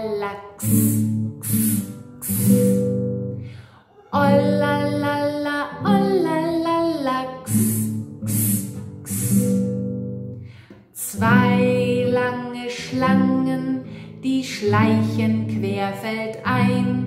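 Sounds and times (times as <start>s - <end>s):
woman singing: 0.0s - 3.0s, 3.6s - 9.8s, 10.9s - 17.0s
acoustic guitar strumming: 0.0s - 17.0s.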